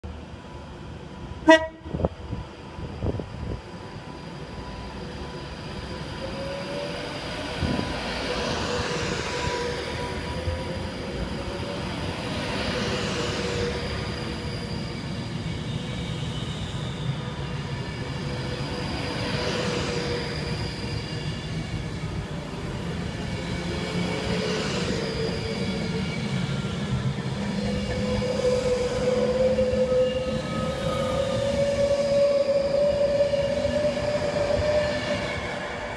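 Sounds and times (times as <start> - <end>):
electric train rolling past: 0.1 - 35.9.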